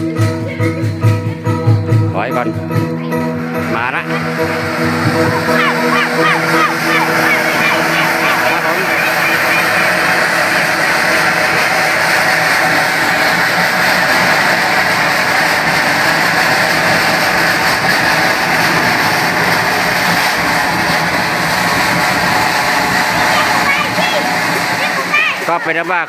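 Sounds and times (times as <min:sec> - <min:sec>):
firework fountain hissing: 0:00.0 - 0:26.0.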